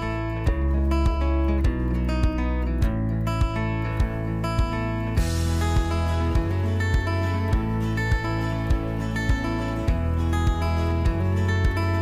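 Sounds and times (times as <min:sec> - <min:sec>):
guitar: 0:00.0 - 0:12.0
low thumping beat: 0:00.0 - 0:12.0.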